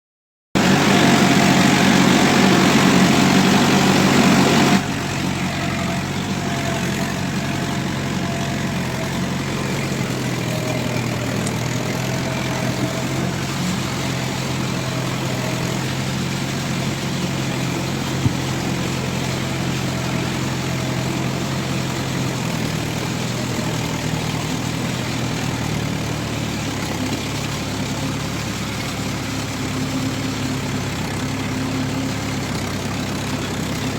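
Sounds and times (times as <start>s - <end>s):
tractor diesel engine running: 0.6s - 33.9s.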